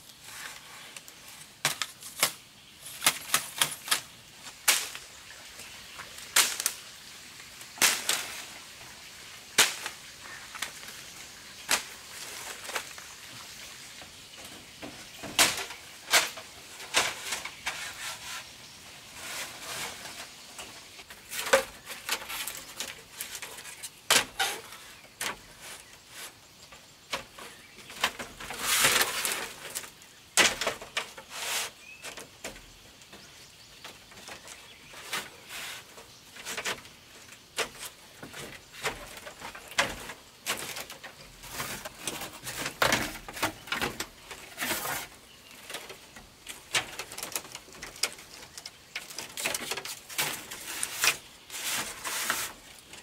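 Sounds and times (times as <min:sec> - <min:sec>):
scraping rustle: 0:00.0 - 0:06.9, 0:09.6 - 0:53.0
bamboo slats clattering on floor: 0:00.4 - 0:05.1, 0:06.0 - 0:06.9, 0:07.7 - 0:08.5, 0:09.6 - 0:11.0, 0:11.6 - 0:13.4, 0:14.0 - 0:18.5, 0:19.1 - 0:53.0.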